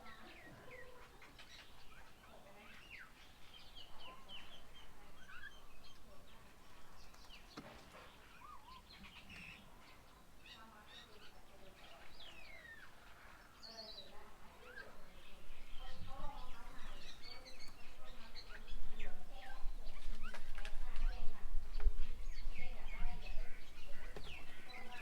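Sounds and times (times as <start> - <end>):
birds chirping and whistling: 0.0 - 6.1, 6.9 - 25.0.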